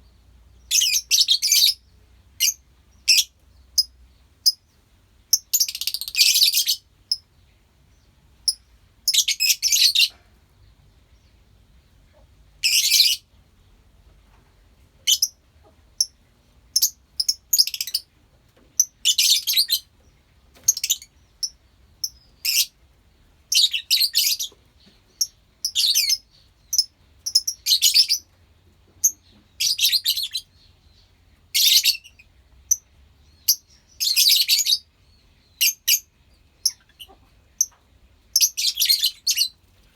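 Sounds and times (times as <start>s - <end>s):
lovebirds chirping: 0.0s - 13.4s, 15.0s - 18.1s, 18.8s - 39.9s.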